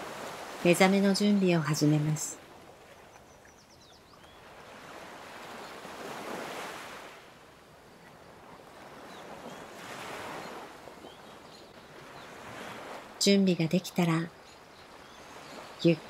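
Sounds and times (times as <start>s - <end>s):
ocean waves washing in: 0.0s - 3.1s, 4.3s - 16.0s.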